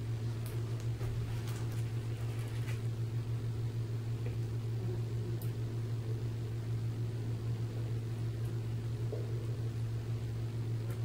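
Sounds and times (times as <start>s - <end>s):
low hum of equipment: 0.0s - 11.0s.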